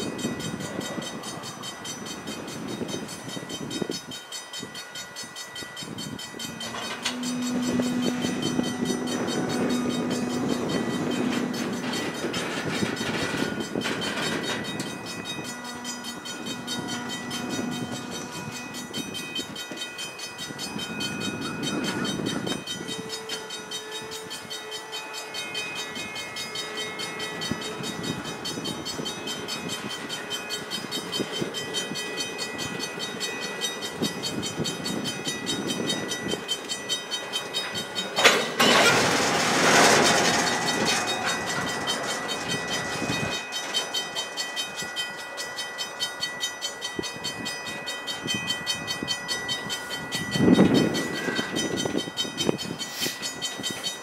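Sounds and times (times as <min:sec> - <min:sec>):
train cars clicking on rails: 0:00.0 - 0:54.0.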